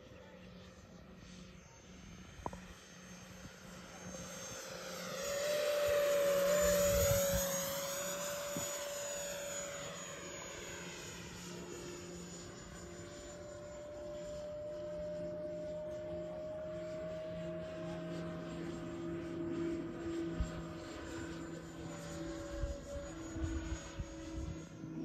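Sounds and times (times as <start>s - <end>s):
model jet fan whine: 0.0s - 25.0s.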